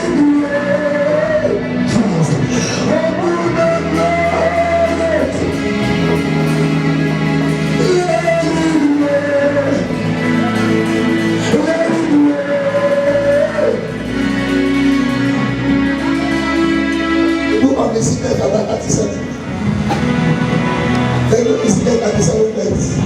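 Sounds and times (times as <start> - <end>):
band with guitar and bass: 0.0 - 23.0.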